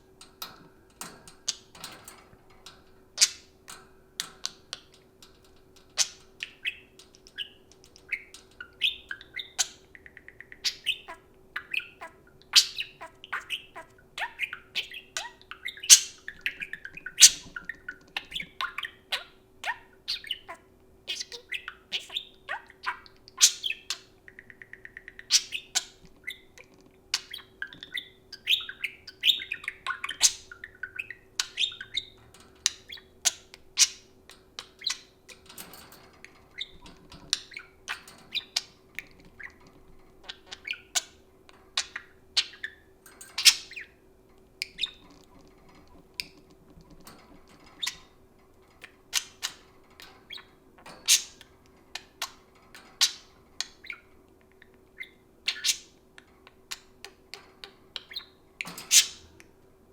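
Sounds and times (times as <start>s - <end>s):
budgerigars chirping and squawking: 0.4s - 5.0s, 5.8s - 44.0s, 44.6s - 59.5s.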